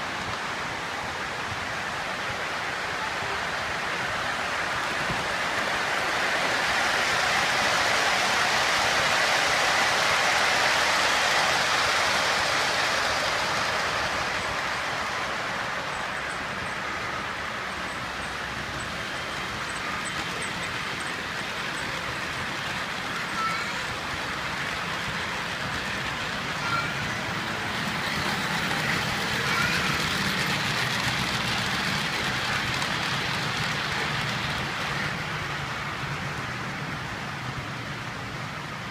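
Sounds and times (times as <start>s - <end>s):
model train wheels rolling: 0.0s - 38.9s.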